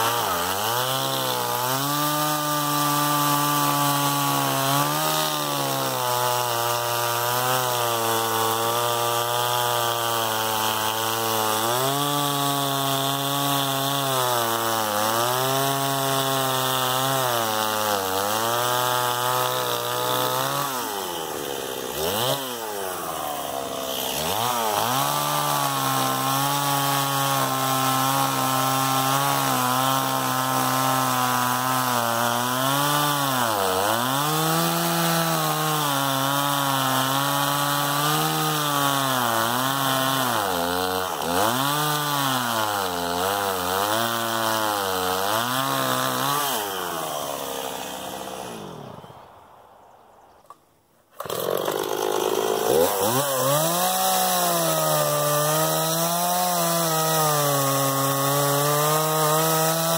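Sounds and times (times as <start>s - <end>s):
chainsaw cutting a log: 0.0s - 49.4s, 51.1s - 59.9s.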